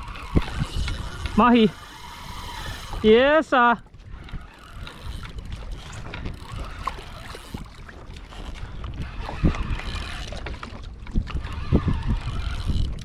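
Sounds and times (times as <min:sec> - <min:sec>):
water sloshing around kayak: 0:00.0 - 0:13.0
wind buffeting microphone: 0:00.0 - 0:13.0.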